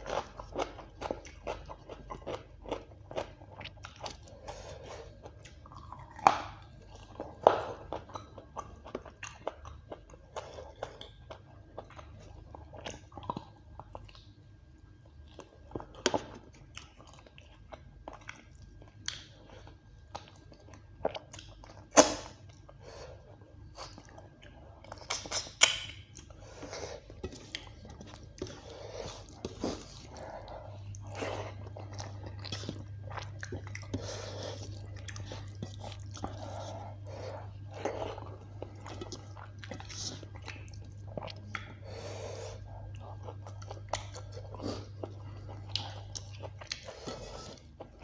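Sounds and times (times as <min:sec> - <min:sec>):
chewing and wet mouth sounds: 0:00.0 - 0:48.0
low steady hum: 0:00.0 - 0:48.0.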